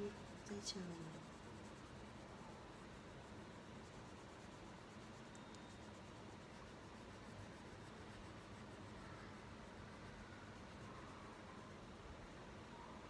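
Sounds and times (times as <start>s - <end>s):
crayon scratching on paper: 0.0s - 11.7s.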